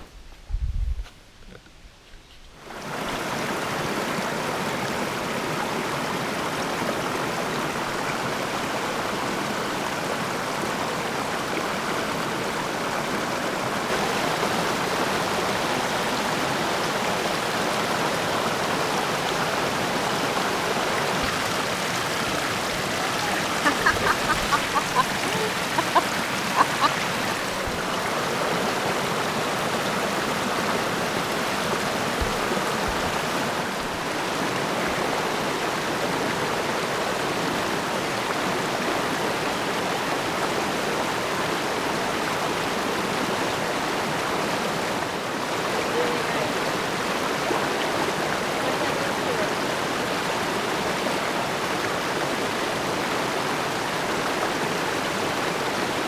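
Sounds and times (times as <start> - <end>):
brook flowing: 1.4 - 56.0.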